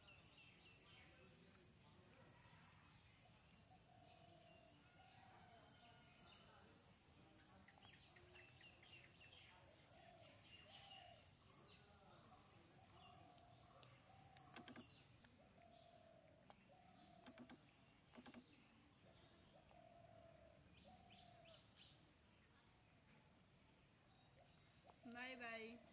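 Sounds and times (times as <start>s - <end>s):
insect chorus: 0.0s - 25.9s.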